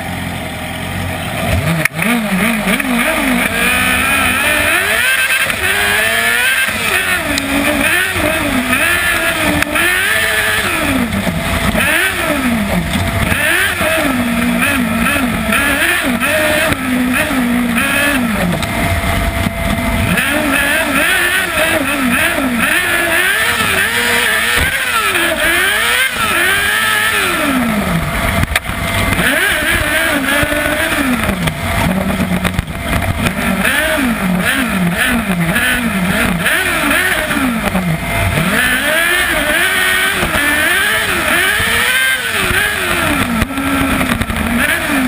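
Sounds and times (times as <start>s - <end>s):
motorcycle engine at racing revs: 0.0s - 45.0s.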